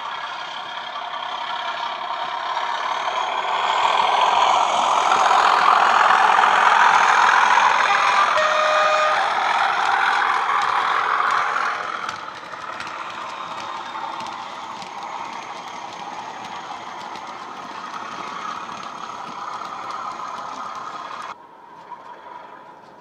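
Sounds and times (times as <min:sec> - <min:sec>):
model diesel engine sound: 0:00.0 - 0:23.0
small wagon wheels ticking on track: 0:00.0 - 0:23.0.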